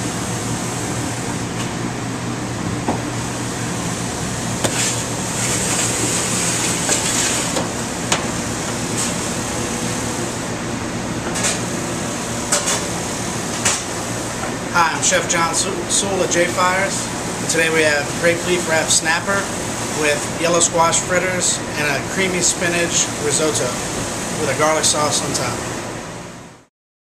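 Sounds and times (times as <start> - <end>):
ventilation fans humming: 0.0 - 26.7.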